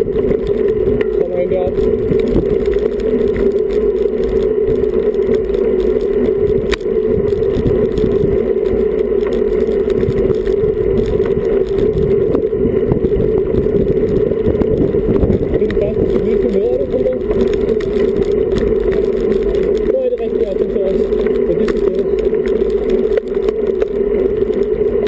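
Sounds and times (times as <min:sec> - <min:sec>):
bicycle rattling: 0:00.0 - 0:25.0
bicycle tyres rolling on asphalt: 0:00.0 - 0:25.0
wind noise: 0:00.0 - 0:25.0.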